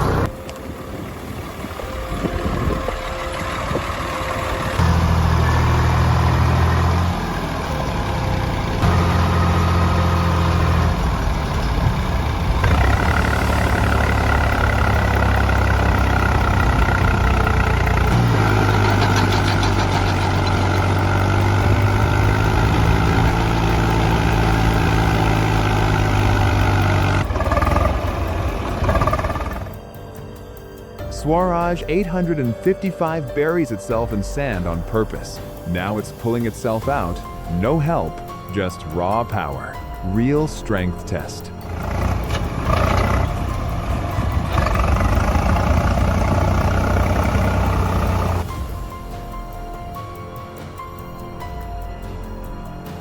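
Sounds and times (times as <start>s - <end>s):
tractor diesel engine under load: 0.0s - 51.8s.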